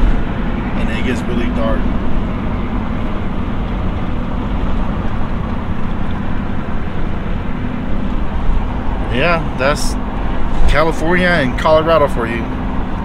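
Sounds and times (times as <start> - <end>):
engine hum inside car: 0.0 - 13.0.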